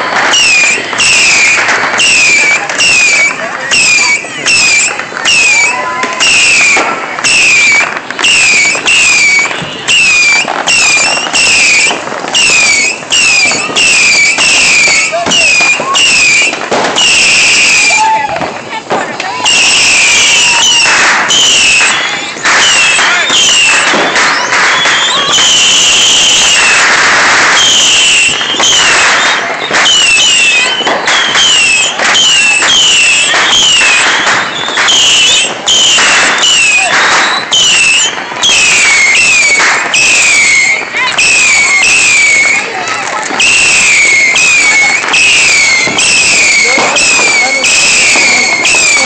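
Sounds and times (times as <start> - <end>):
fireworks crackling hiss: 0.0 - 49.0
fireworks sharp cracks: 0.0 - 49.0
whistling fireworks: 0.0 - 49.0.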